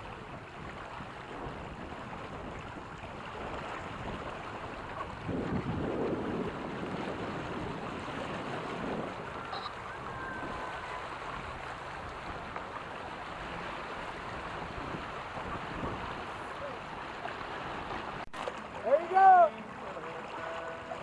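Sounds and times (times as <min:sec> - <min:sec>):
water splashing along hulls: 0:00.0 - 0:21.0
wind: 0:00.0 - 0:21.0.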